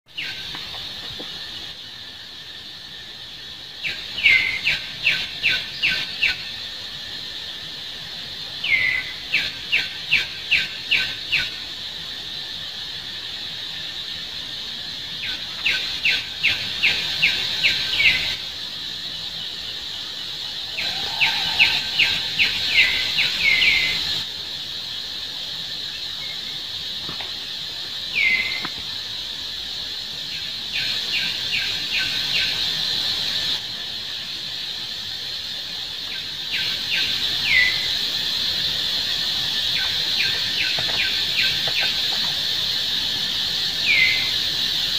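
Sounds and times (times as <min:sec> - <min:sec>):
high insect drone: 0:00.1 - 0:44.9.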